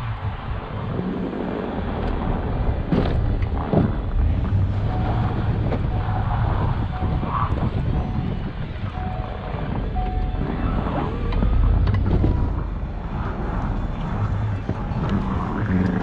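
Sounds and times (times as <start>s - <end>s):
vehicle engine running: 0.0s - 16.0s
wind noise on microphone: 0.0s - 16.0s.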